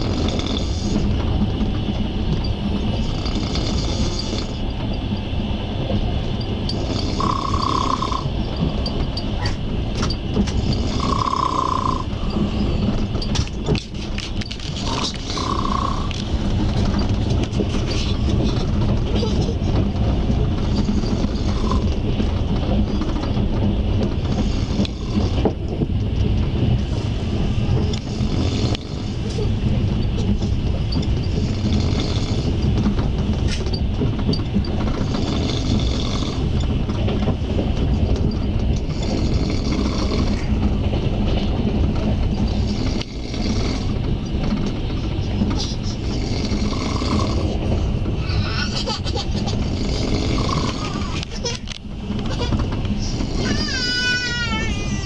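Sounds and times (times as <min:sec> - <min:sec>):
low hum: 0:00.0 - 0:55.0
train wheels on rail: 0:00.0 - 0:55.0.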